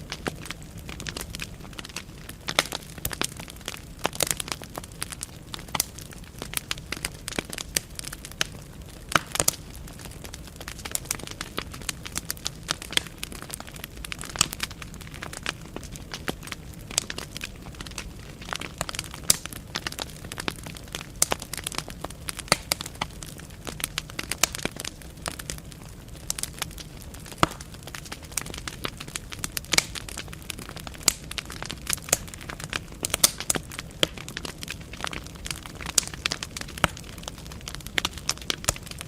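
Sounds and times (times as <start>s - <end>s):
logs crackling and popping: 0.0s - 39.0s
low rumble of flame: 0.0s - 39.0s.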